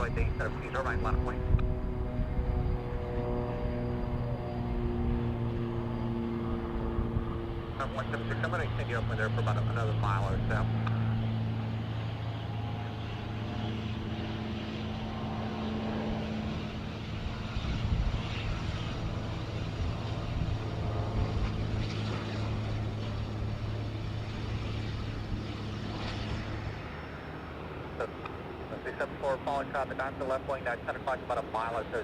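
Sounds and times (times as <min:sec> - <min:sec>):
aircraft engine drone: 0:00.0 - 0:32.0.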